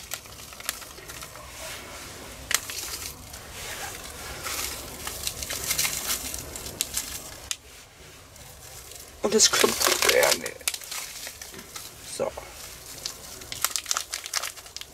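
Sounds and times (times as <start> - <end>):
paper bag rustling: 0.0 - 14.9.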